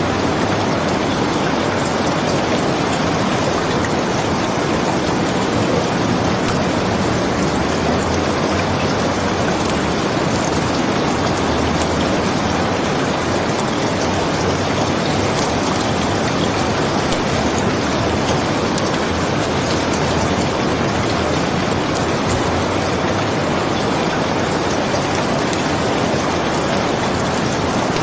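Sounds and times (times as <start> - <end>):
raindrop ticks: 0.0 - 28.0
steady rain hiss: 0.0 - 28.0.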